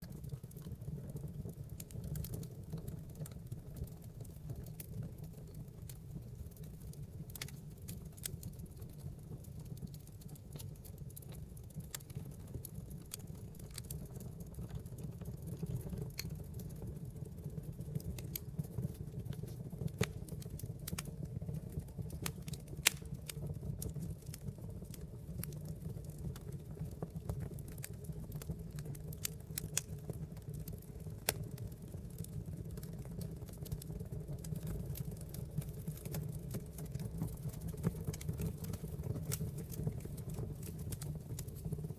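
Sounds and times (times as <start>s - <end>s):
fire crackling: 0.0s - 41.9s.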